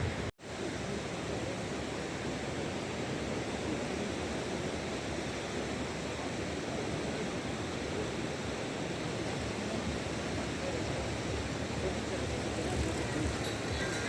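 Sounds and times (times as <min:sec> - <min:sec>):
waves rushing on shore: 0:00.0 - 0:14.0.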